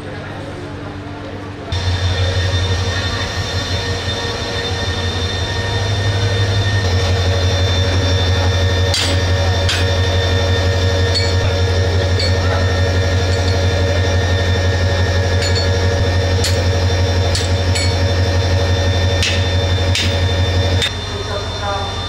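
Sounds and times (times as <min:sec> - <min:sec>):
diesel locomotive idling: 0:00.0 - 0:22.0.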